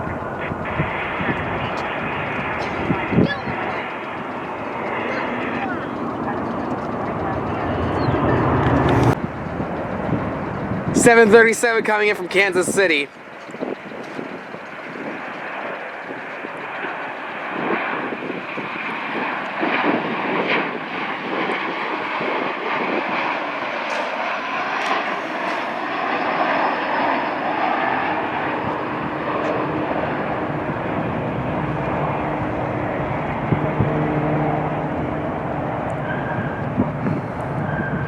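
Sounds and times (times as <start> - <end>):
jet airliner passing: 0.0 - 38.0.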